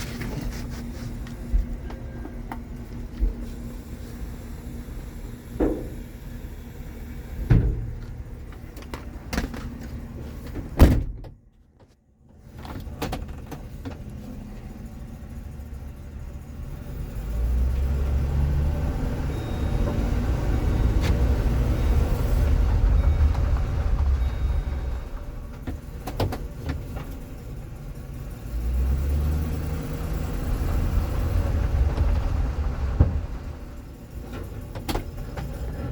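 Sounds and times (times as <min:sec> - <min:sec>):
truck engine rumbling: 0:00.0 - 0:35.9.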